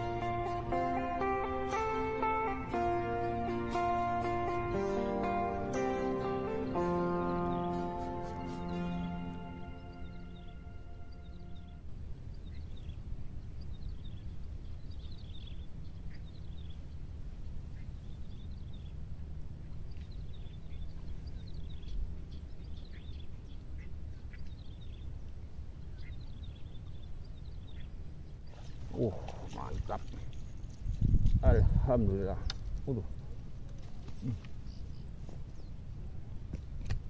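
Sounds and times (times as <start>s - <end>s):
birds chirping: 0.0s - 36.9s
low outdoor rumble: 0.0s - 37.0s.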